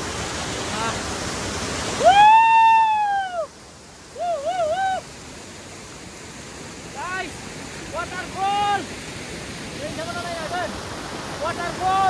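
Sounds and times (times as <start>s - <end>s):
rushing stream water: 0.0s - 12.0s.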